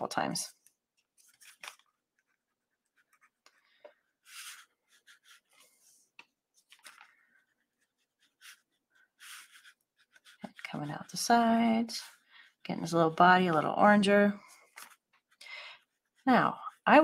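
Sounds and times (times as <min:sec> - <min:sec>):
scratchy paintbrush strokes: 0:00.5 - 0:17.0.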